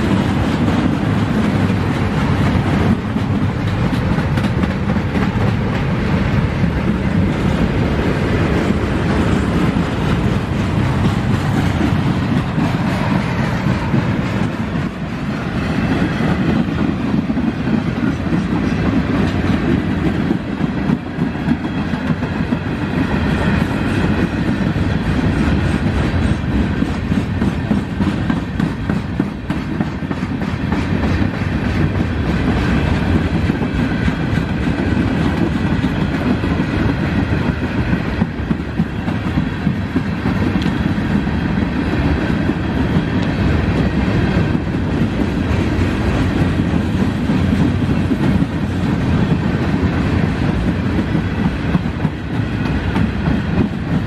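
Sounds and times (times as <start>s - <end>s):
train wheels rumbling on rail: 0.0s - 54.0s
wheels clickety-clack: 0.0s - 54.0s.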